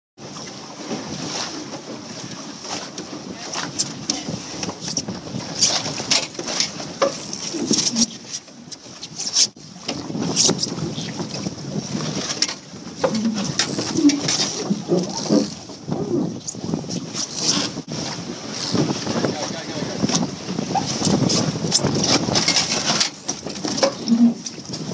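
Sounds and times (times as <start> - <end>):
rustling and knocks on boat: 0.2 - 24.9
water splashing against boat: 0.2 - 24.9
wind: 0.2 - 24.9.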